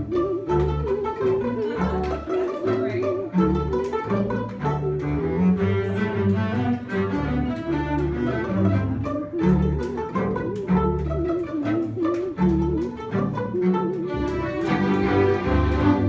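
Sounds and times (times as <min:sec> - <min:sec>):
bowed string melody with vibrato: 0:00.0 - 0:16.0.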